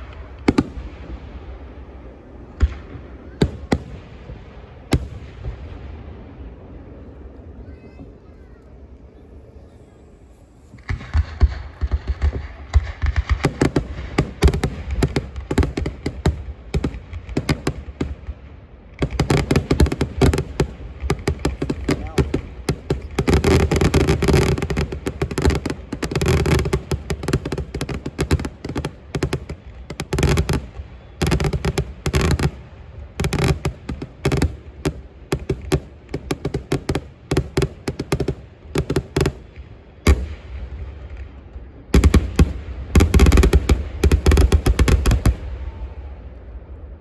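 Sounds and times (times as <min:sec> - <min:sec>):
fireworks crackling bangs: 0:00.0 - 0:47.0.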